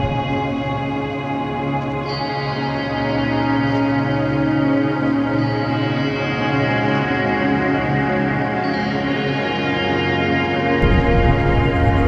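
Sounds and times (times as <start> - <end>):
ambient music sustained tones: 0.0 - 12.0.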